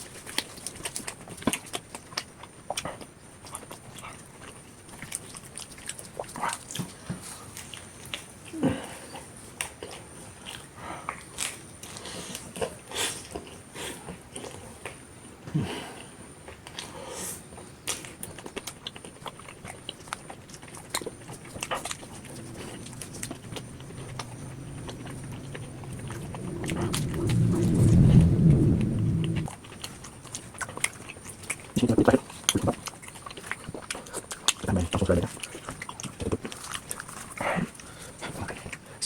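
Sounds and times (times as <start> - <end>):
chewing and biting: 0.0 - 15.0, 16.4 - 28.0, 29.4 - 39.0.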